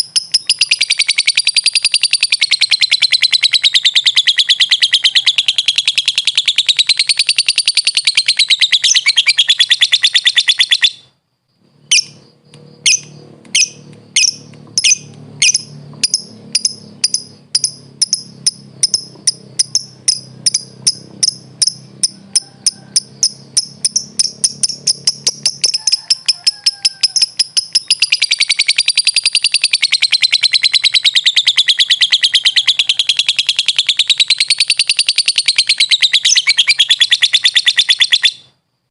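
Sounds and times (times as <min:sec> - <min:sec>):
bird chattering trill: 0:00.0 - 0:11.1, 0:11.8 - 0:38.5
sharp bird chirps: 0:00.0 - 0:38.6.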